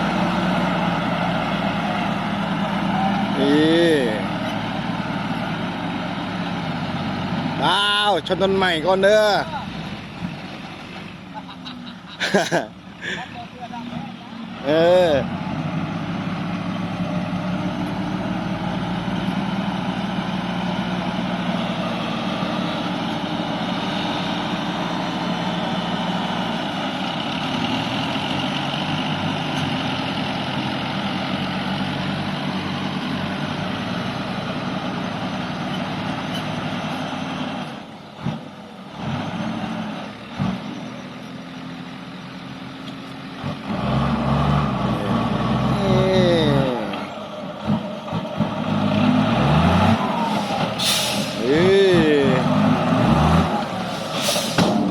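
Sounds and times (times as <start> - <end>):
diesel truck engine running: 0.0 - 54.9.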